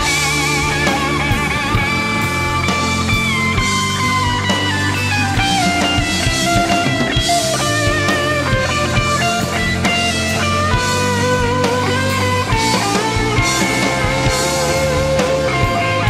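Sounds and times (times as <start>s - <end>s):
overdriven electric guitar solo: 0.0s - 16.0s
rock backing track: 0.0s - 16.0s.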